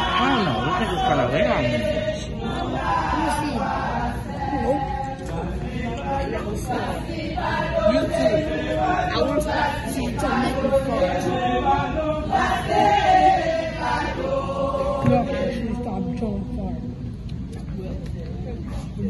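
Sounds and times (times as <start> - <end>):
church choir singing: 0.0 - 15.9.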